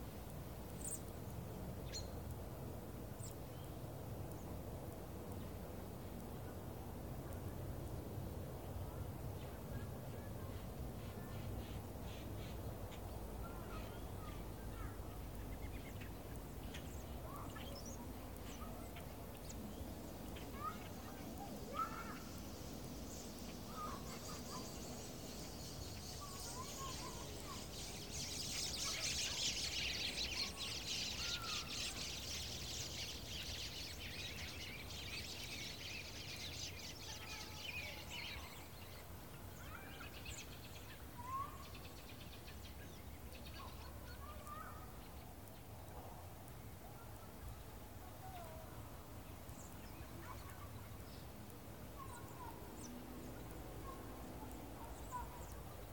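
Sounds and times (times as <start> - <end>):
high chattering of many birds: 0.0 - 55.9.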